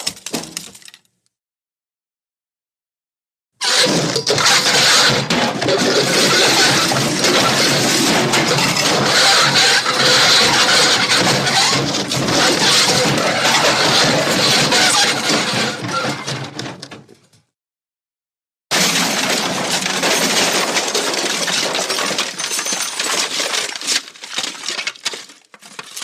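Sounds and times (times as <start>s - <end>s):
crash with clattering debris: 0.0s - 1.1s, 3.6s - 17.1s, 18.7s - 26.0s
crash with rattling debris: 0.0s - 1.1s, 3.6s - 17.1s, 18.7s - 26.0s.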